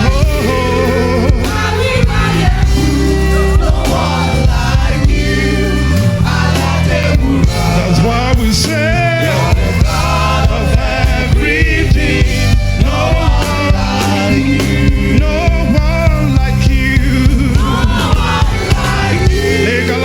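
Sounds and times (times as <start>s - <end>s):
gospel singing over a band: 0.0s - 20.0s.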